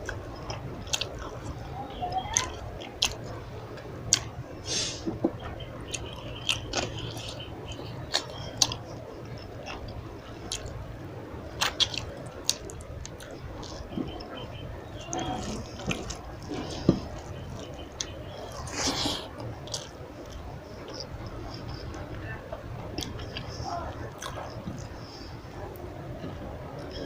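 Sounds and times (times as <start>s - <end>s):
person chewing food: 0.0s - 22.2s, 22.8s - 27.0s
low hum: 0.0s - 27.0s.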